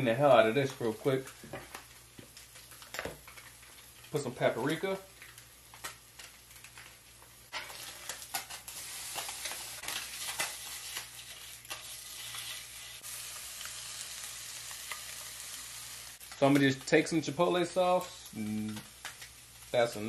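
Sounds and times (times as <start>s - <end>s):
fish fillets sizzling in a skillet: 1.2s - 20.0s.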